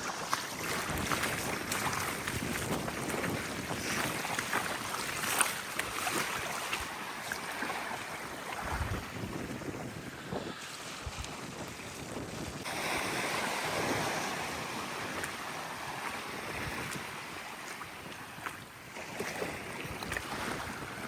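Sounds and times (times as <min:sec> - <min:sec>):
sea waves breaking: 0:00.0 - 0:21.0
wind buffeting microphone: 0:00.0 - 0:21.0.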